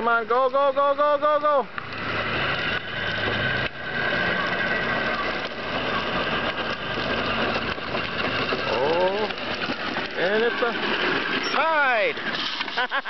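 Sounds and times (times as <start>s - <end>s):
electric toy motors whining: 1.8s - 13.0s.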